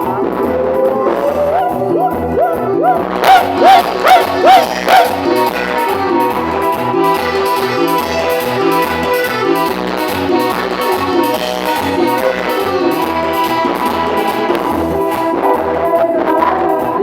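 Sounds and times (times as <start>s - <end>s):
band music with bass beat: 0.0s - 17.0s.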